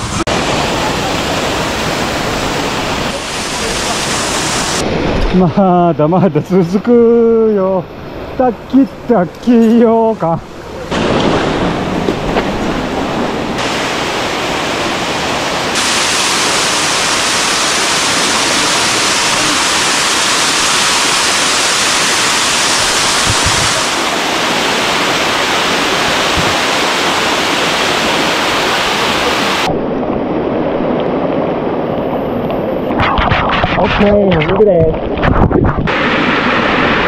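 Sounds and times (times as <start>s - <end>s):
water rushing down waterfalls: 0.0s - 37.0s.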